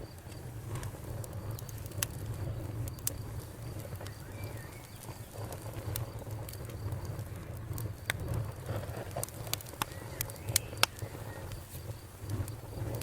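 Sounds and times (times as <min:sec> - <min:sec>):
burning logs popping and crackling: 0:00.0 - 0:13.0
low rumble of flames: 0:00.0 - 0:13.0.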